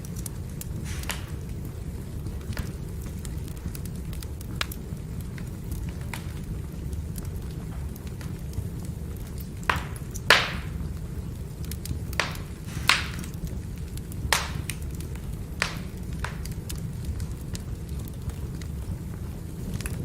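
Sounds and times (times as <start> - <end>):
firewood crackling and popping: 0.0 - 20.0
low rumble of fire: 0.0 - 20.0.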